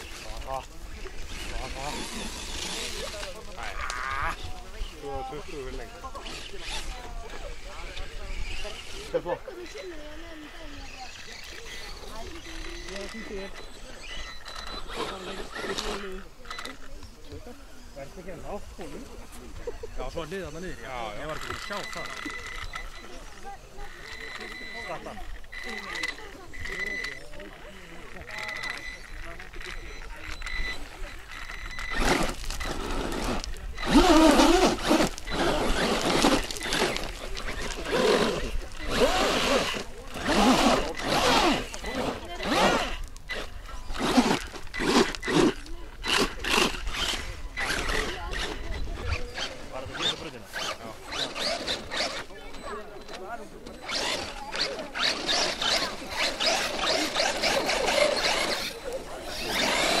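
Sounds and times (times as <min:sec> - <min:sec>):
toy car tyres spinning in gravel: 0:00.0 - 1:00.0.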